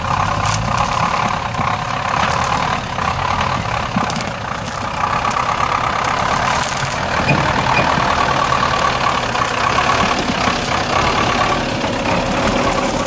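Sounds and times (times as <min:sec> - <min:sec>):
truck engine running at low speed: 0:00.0 - 0:13.0.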